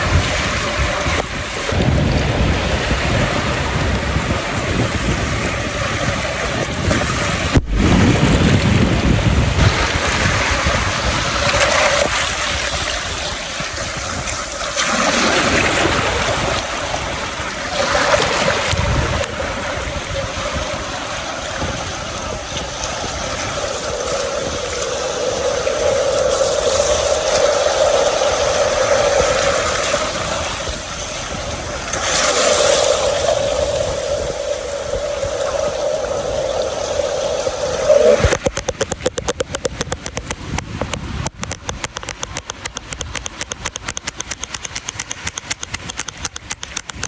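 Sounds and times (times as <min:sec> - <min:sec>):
ocean surf on beach: 0:00.0 - 0:47.0
wind buffeting microphone: 0:00.0 - 0:47.0.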